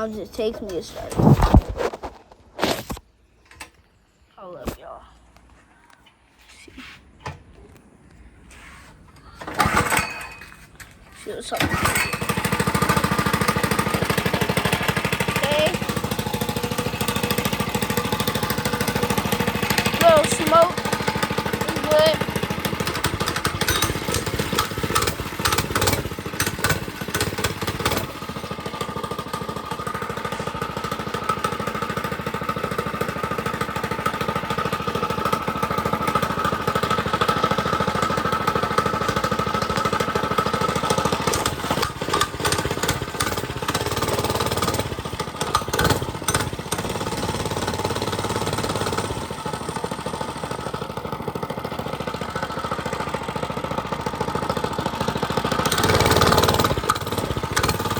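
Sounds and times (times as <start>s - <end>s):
small engine running: 9.2s - 57.9s.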